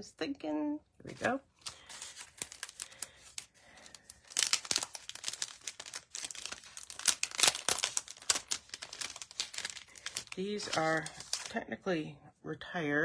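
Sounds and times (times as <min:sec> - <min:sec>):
packaging crinkling: 0:01.1 - 0:11.6.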